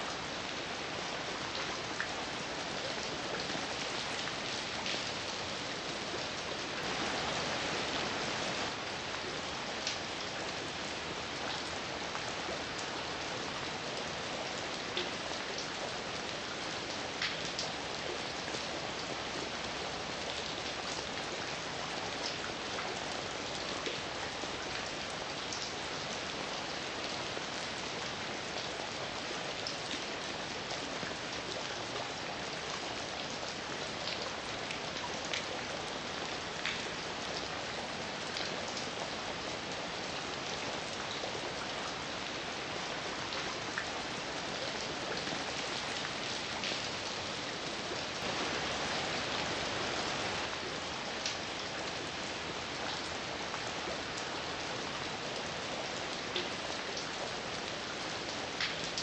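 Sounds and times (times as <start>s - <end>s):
heavy rain falling: 0.0s - 18.4s, 19.0s - 59.0s.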